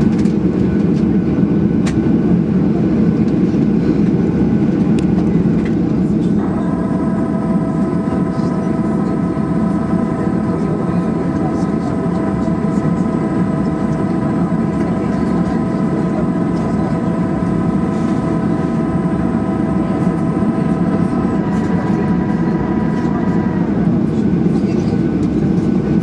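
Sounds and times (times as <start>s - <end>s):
jet engine rumble and whine: 0.0s - 26.0s.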